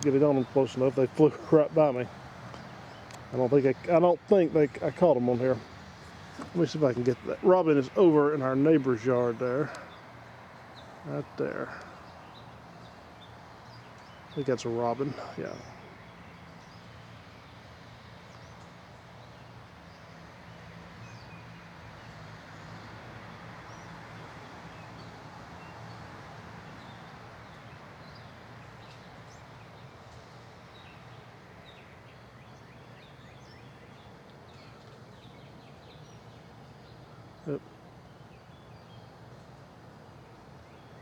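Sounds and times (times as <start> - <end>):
songbirds chirping: 0.0 - 41.0.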